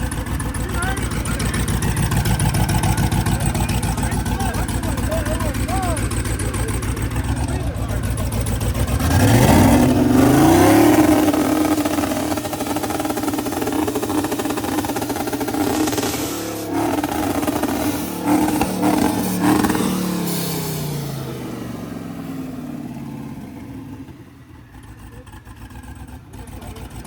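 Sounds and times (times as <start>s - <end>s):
engine revving hard: 0.0s - 27.0s.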